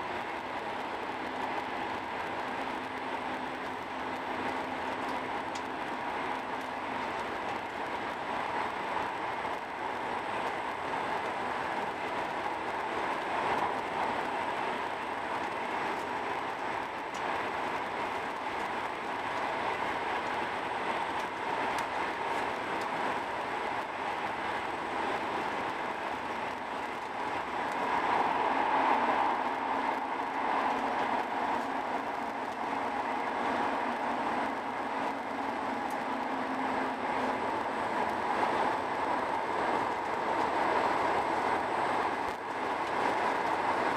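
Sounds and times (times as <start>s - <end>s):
train cabin rushing hum: 0.0s - 43.9s.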